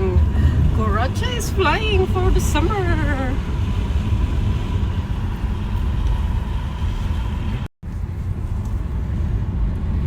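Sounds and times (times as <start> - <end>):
road and tyre rumble: 0.0 - 10.0.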